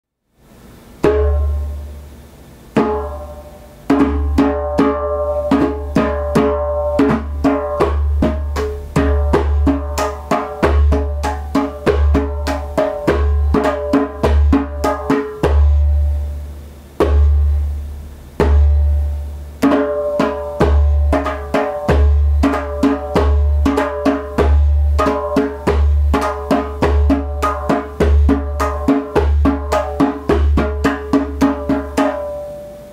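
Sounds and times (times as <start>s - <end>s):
djembe drumming: 1.0s - 1.9s, 2.8s - 32.8s.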